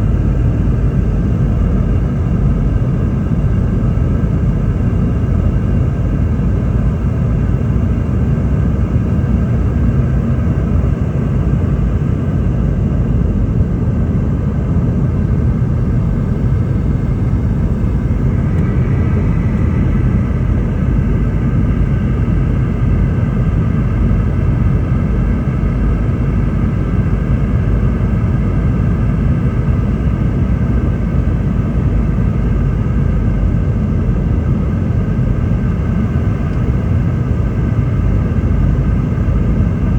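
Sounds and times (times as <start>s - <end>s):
faint whining tones: 0.0s - 39.9s
jet engine roar in cabin: 0.0s - 39.9s.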